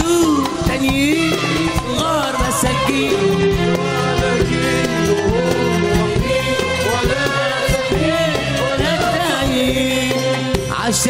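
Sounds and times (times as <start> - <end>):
steady bass: 0.0 - 11.0
violin section gliding melody: 0.1 - 10.8.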